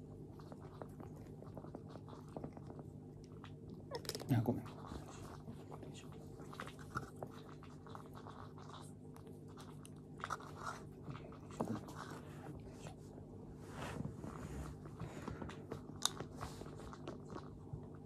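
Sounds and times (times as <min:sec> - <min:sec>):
cat chewing and crunching: 0:00.0 - 0:13.3, 0:14.0 - 0:18.0.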